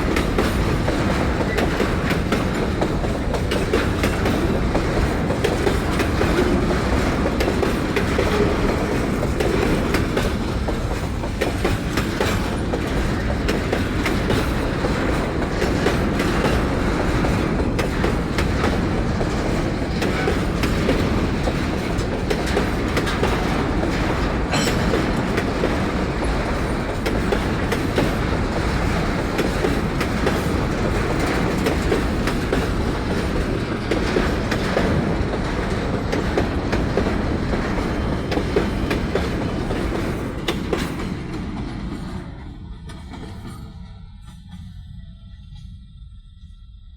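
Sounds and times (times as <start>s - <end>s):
clickety-clack over rail joints: 0.0s - 44.8s
train wheels rumbling on rail: 0.0s - 46.9s.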